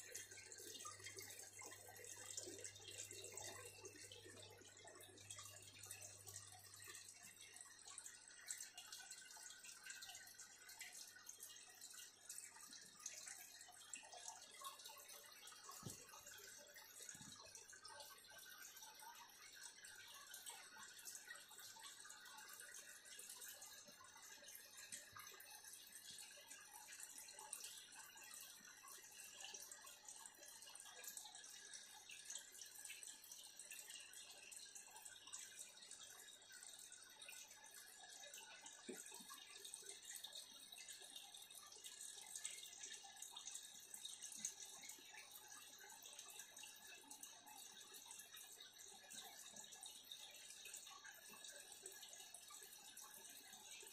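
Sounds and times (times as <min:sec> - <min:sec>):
water trickling and dripping: 0:00.0 - 0:53.9.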